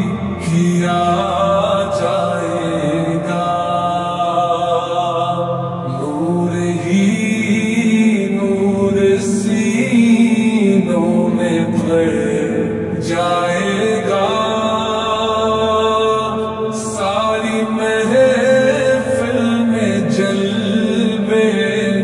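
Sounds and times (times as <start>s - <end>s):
man singing a devotional song: 0.0s - 22.0s.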